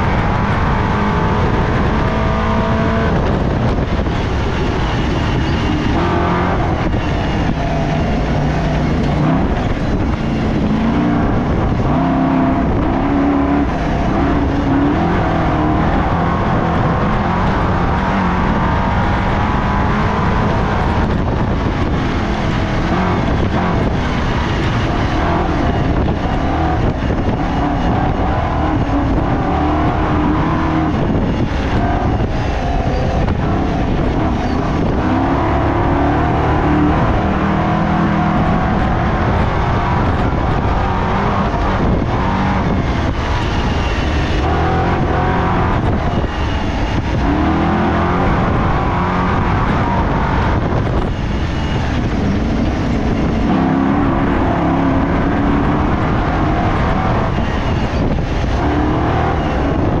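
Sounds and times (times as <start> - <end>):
constant rushing noise: 0.0 - 60.0
race car engine revving: 0.0 - 60.0.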